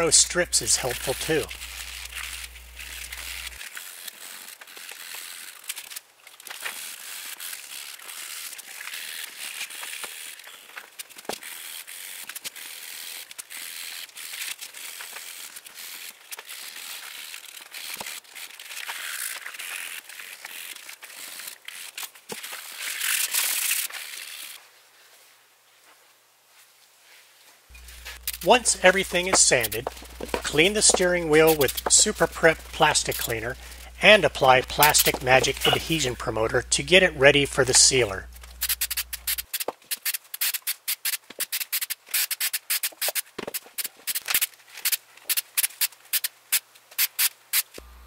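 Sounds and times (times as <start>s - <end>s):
sandpaper scratching plastic: 0.0s - 24.6s, 27.8s - 47.8s.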